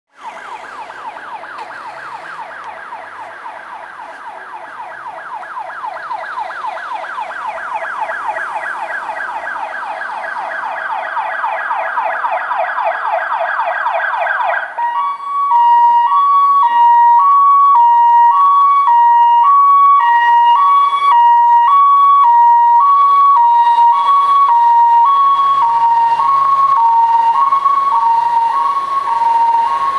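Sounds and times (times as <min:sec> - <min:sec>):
rising yelp siren: 0:00.1 - 0:29.9
two-tone high-low siren: 0:00.1 - 0:29.9.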